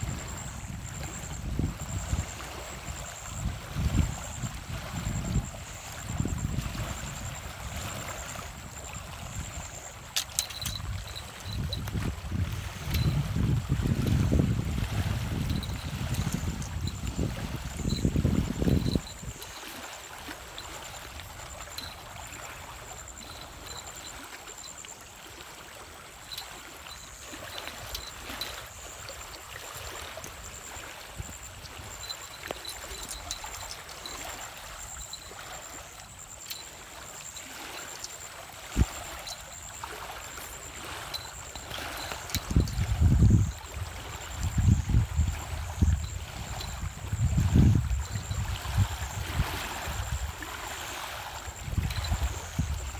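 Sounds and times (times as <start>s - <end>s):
wind rumbling on microphone: 0.0s - 24.7s, 25.5s - 37.9s, 38.6s - 52.9s
water lapping on pebbles: 0.0s - 52.9s.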